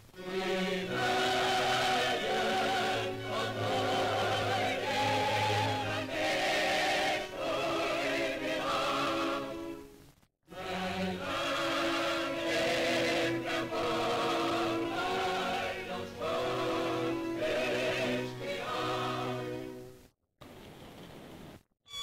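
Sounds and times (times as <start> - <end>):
choir singing sustained chords: 0.2 - 9.9, 10.5 - 19.9.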